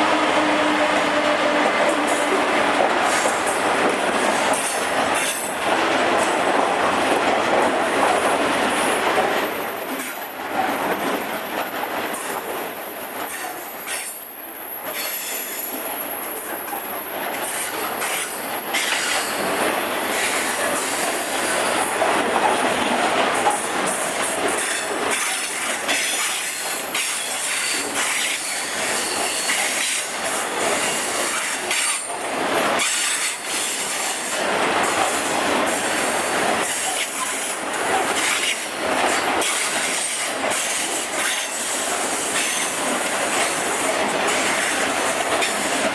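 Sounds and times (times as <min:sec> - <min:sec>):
train rail noise: 0:00.0 - 0:45.9.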